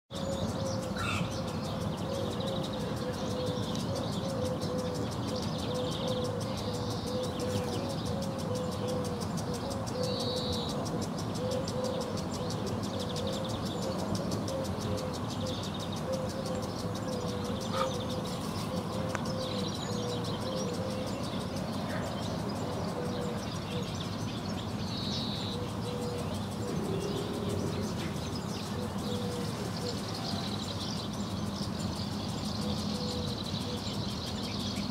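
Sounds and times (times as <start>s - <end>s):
distant traffic rumble: 0.1s - 34.9s
low pulsing hum: 0.1s - 34.9s
swallows chirping: 0.1s - 34.9s.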